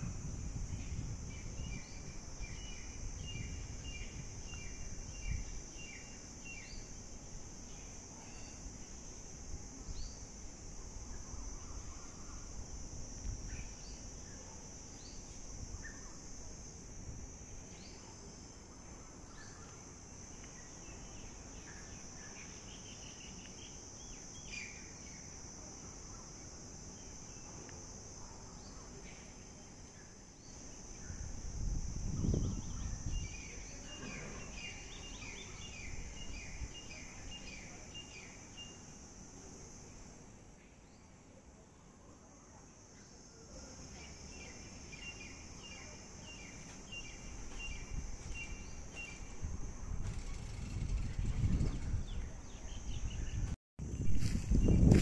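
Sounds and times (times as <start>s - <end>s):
high-pitched insect drone: 0.0s - 40.0s, 43.0s - 55.0s.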